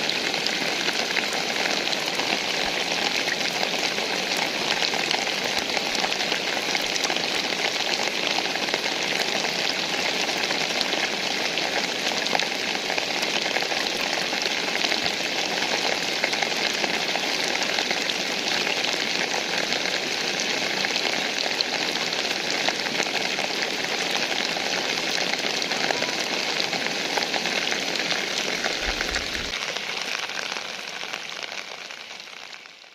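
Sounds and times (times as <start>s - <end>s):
steady rainfall: 0.0s - 32.9s.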